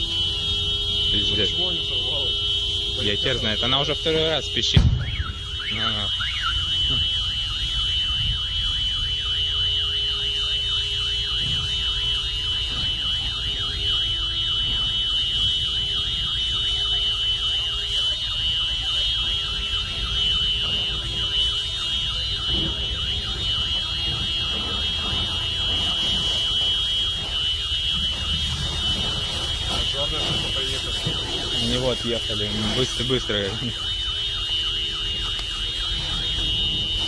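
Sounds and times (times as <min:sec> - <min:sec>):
car alarm: 0:00.0 - 0:37.0.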